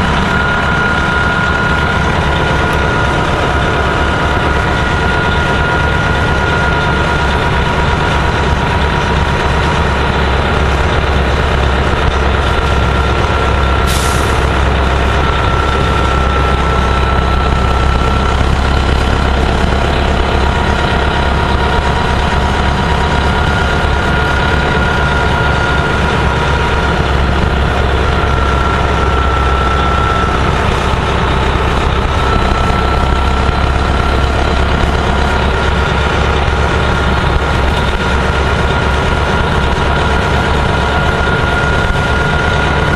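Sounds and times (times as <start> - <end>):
bus diesel engine with whine: 0.0 - 42.9.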